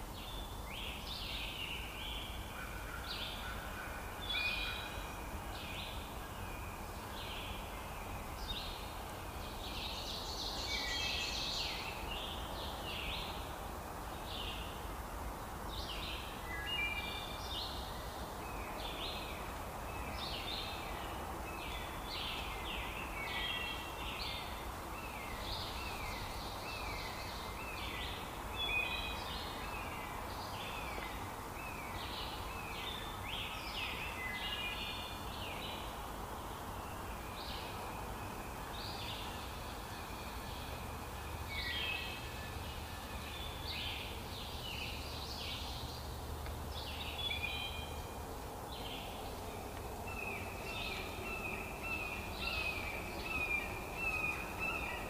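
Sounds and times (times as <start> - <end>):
birds singing: 0.0 - 14.9, 15.6 - 55.0
steady background hiss: 0.0 - 55.0.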